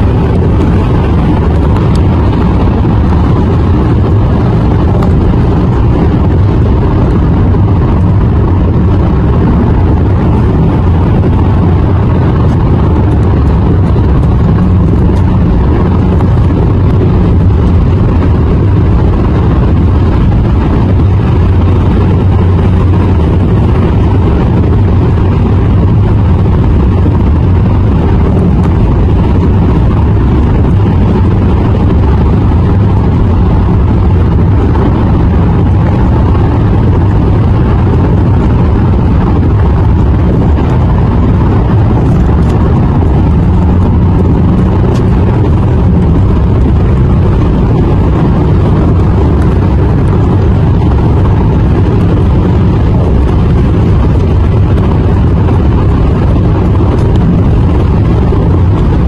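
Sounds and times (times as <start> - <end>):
car cabin road and engine rumble: 0.0 - 59.0.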